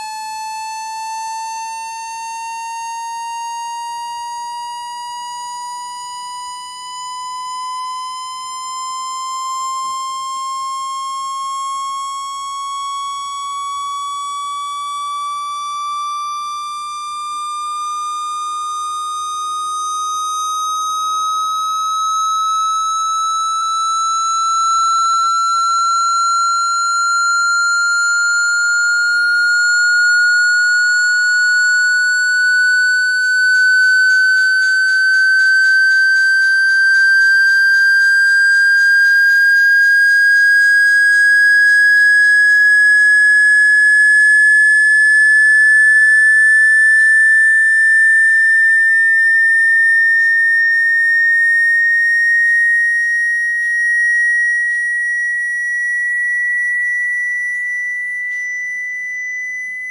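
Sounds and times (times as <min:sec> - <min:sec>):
rising whistling tone: 0:00.0 - 0:59.9.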